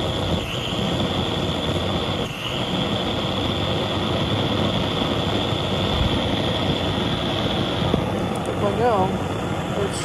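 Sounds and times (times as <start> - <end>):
blowtorch burner hissing: 0.0 - 10.0.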